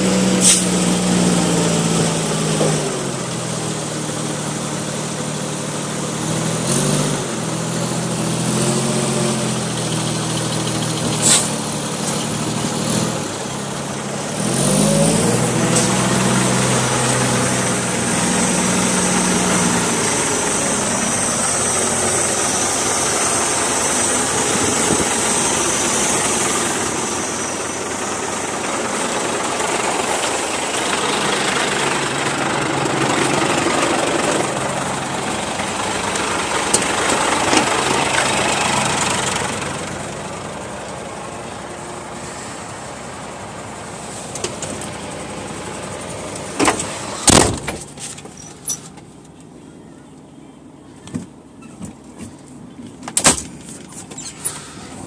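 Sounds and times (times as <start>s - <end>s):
heavy diesel engines revving: 0.0s - 49.4s.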